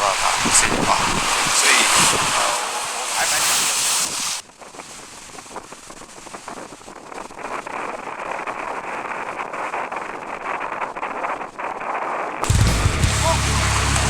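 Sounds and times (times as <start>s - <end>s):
wind buffeting microphone: 0.0s - 12.6s
sea surf: 0.0s - 14.0s.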